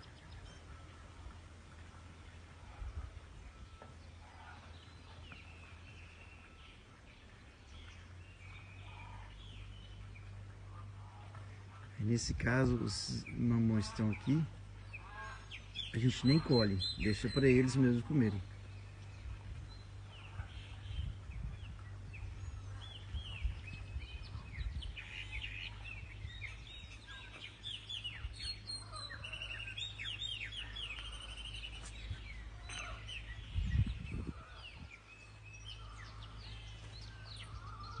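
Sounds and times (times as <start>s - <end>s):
birds chirping: 0.0s - 38.0s
steady low rumble: 0.0s - 38.0s.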